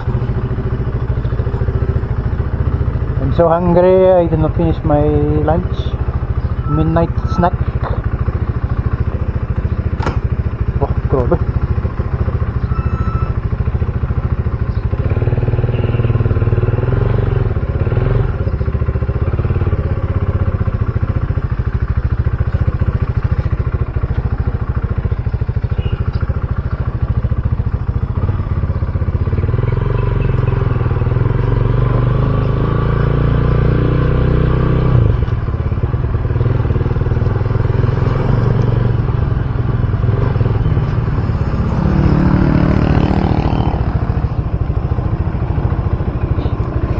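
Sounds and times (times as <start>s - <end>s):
wind and road noise: 0.0s - 15.8s, 16.6s - 46.9s
motorcycle engine running: 0.0s - 46.9s.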